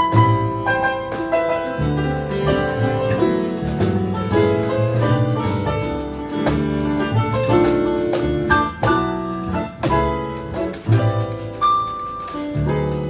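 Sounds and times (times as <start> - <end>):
bass line: 0.0 - 13.0
light percussion strokes: 0.0 - 13.0
sustained piano chords: 0.0 - 13.0.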